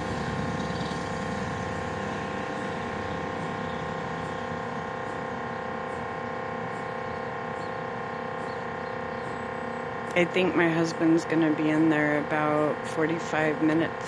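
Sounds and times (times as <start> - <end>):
mri scanner hum: 0.0 - 14.0.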